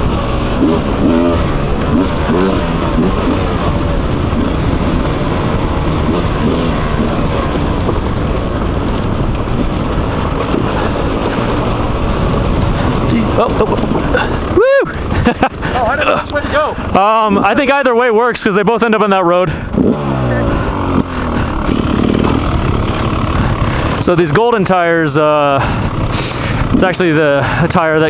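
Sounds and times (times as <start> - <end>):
dirt bike engine running: 0.0 - 28.0
steady rushing noise: 0.0 - 28.0.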